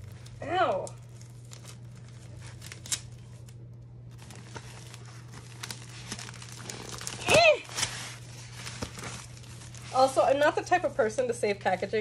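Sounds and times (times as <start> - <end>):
tape strip peeling: 0.0 - 10.6
wrapping crinkling and tearing: 0.0 - 12.0.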